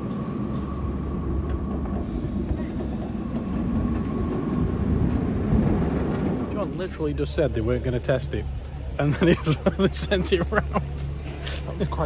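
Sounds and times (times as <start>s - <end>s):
roller coaster wheels rumbling on rail: 0.0s - 12.0s.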